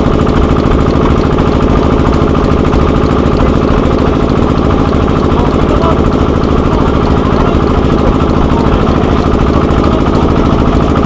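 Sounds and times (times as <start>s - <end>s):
single-cylinder engine running: 0.0s - 11.0s.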